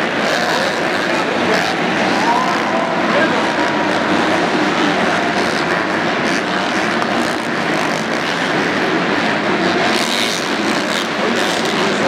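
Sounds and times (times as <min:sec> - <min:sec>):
motorbike engines racing: 0:00.0 - 0:12.0.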